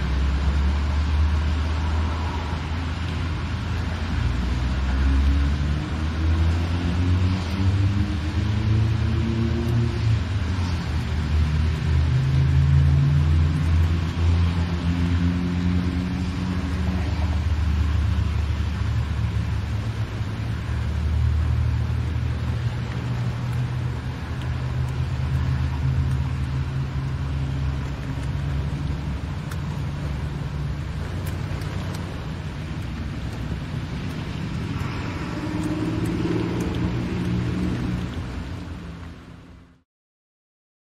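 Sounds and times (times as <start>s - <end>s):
engine and road rumble: 0.0s - 39.8s
rain and wet tyres hissing: 0.0s - 39.8s.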